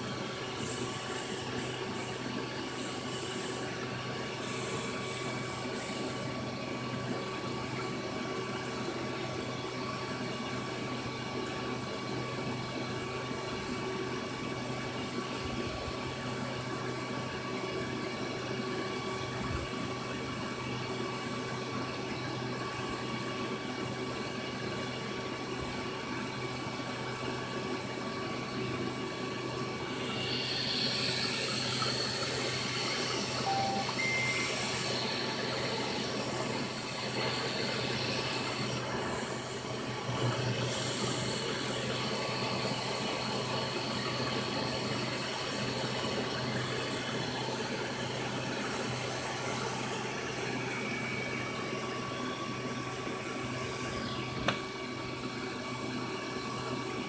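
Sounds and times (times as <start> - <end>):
aquarium filter humming: 0.0 - 57.0.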